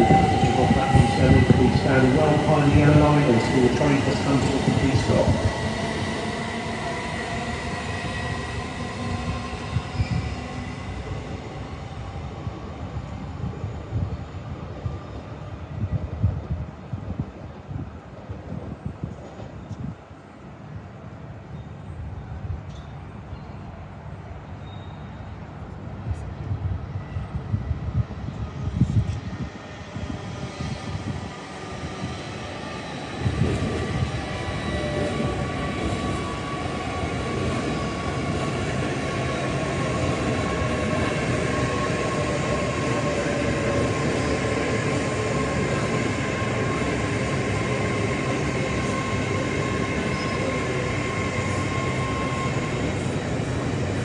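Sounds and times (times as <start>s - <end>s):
train rumbling: 0.0s - 21.2s, 25.4s - 54.0s.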